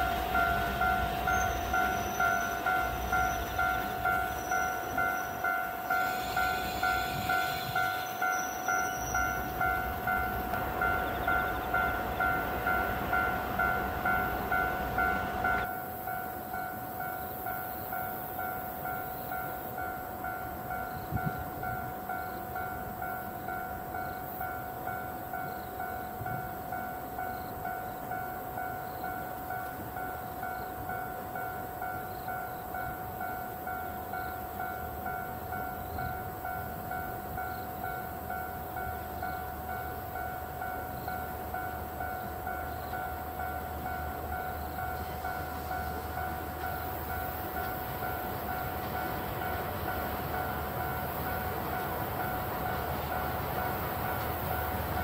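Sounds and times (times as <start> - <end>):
diesel train rumble: 0.0 - 16.1, 16.8 - 55.0.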